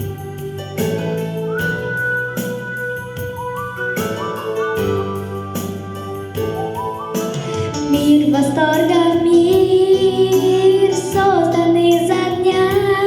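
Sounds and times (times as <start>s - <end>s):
backing track with bass: 0.0s - 13.0s.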